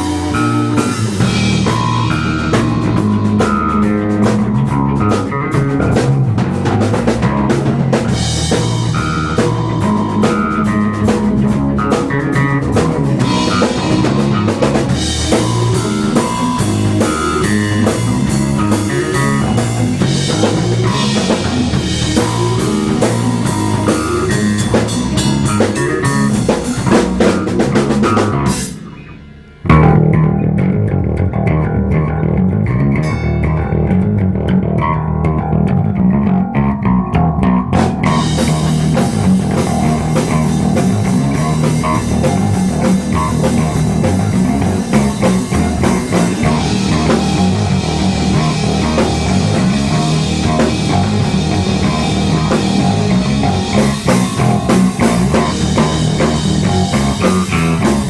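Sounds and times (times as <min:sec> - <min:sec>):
bass guitar: 0:00.0 - 0:58.0
drums: 0:00.0 - 0:58.0
guitar: 0:00.0 - 0:58.0.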